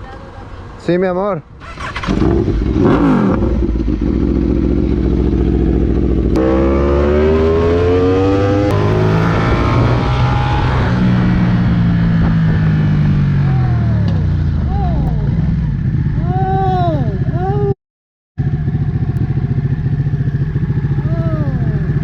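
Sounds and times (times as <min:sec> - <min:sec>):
motorcycle engine revving: 0:01.6 - 0:17.5, 0:18.4 - 0:22.0.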